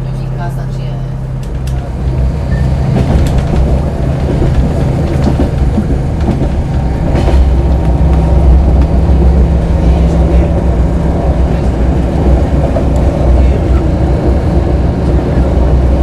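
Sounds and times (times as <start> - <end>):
diesel engine drone: 0.0 - 16.0
train wheels rumbling on rails: 0.0 - 16.0.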